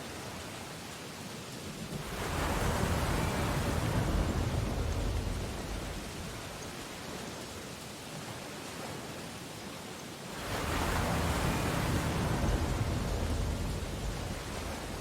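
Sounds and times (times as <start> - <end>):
waves washing on beach: 0.0 - 15.0.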